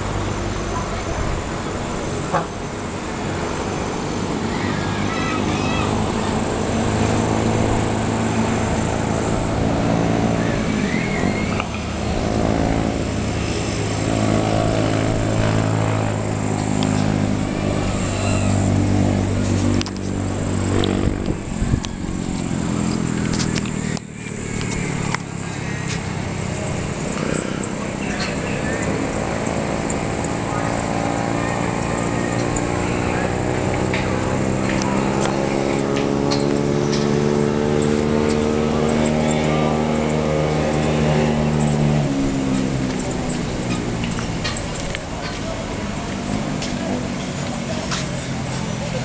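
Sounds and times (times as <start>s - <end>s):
vehicle engines passing: 0.0s - 49.0s.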